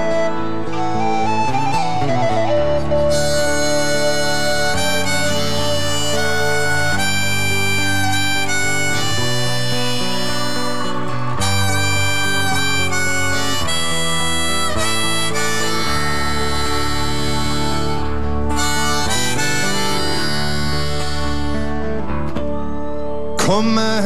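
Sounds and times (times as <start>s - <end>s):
harmonica solo: 0.0s - 23.4s
live band accompaniment: 0.0s - 24.0s.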